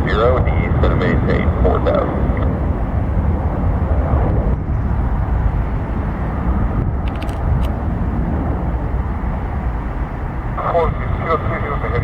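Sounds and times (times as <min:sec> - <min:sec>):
low rumble of airport noise: 0:00.0 - 0:12.0.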